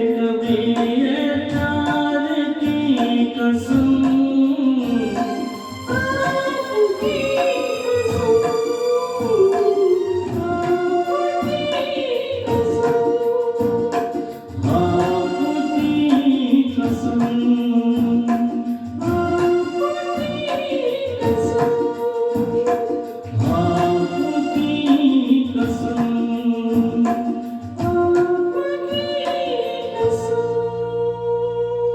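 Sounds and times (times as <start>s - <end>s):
backing music with steady beat: 0.0s - 31.8s
person singing: 0.0s - 31.9s.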